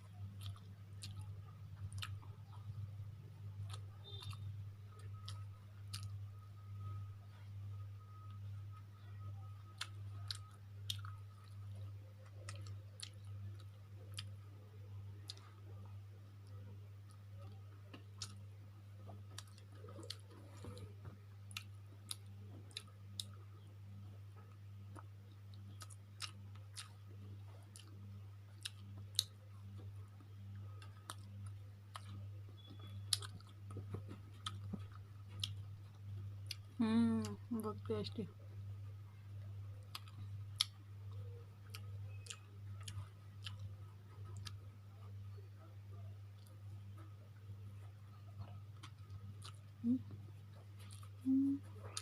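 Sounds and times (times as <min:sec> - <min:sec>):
person chewing food: 0:00.0 - 0:06.2, 0:09.5 - 0:37.4, 0:39.7 - 0:45.4, 0:47.8 - 0:52.0
steady low hum: 0:00.0 - 0:52.0.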